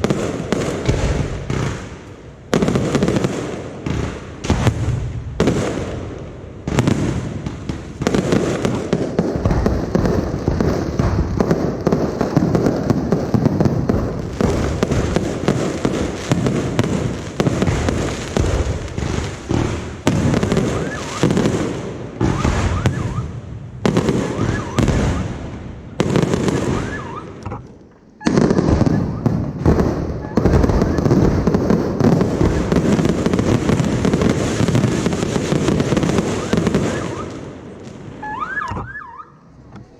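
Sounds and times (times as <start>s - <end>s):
fireworks bursts and crackling: 0.0s - 39.4s.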